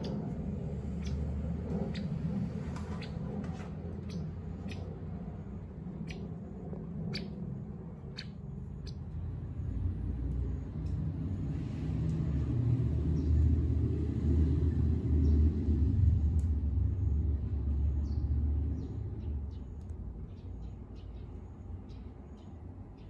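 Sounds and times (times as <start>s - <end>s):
passing motor vehicle rumble: 0.0s - 23.0s.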